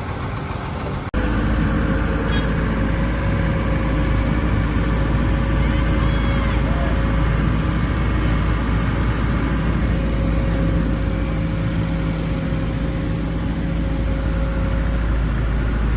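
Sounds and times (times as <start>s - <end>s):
heavy machinery engines rumbling: 0.0s - 15.9s.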